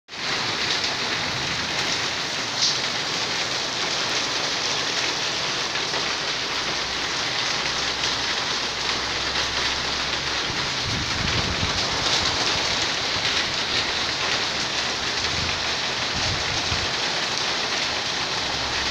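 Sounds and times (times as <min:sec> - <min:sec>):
rain on concrete and leaves: 0:00.1 - 0:18.9.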